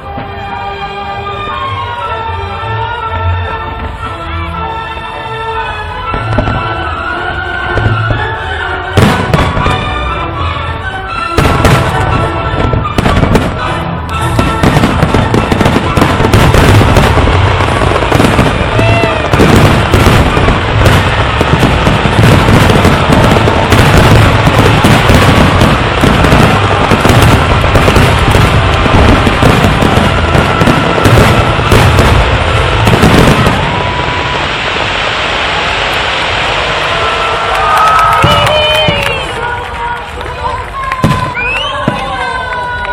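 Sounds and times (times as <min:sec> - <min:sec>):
fireworks bursting and crackling: 0:06.0 - 0:42.9.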